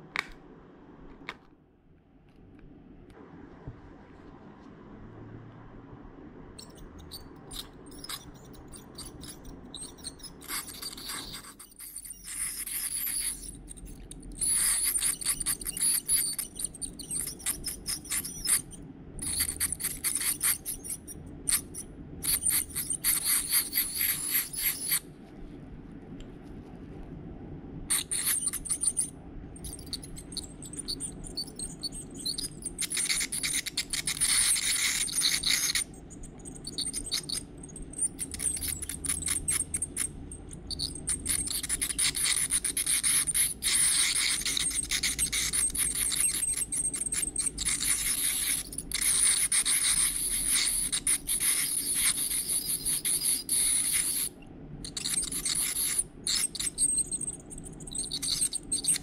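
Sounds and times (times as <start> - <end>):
dental scaler whine: 6.6 - 25.0, 27.9 - 59.0
scraping tartar off teeth: 6.6 - 25.0, 27.9 - 54.3, 54.9 - 59.0.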